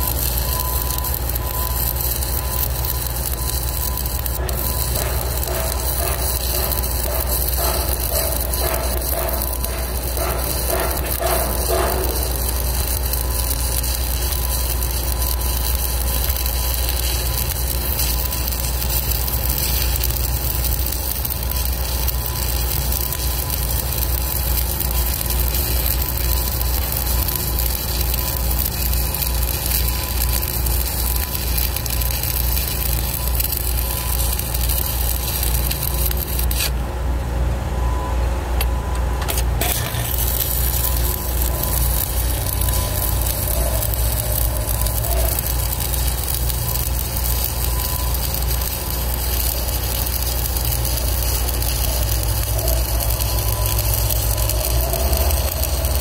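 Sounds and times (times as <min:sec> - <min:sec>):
welding arc burning: 0:00.0 - 0:36.8, 0:39.2 - 0:56.0.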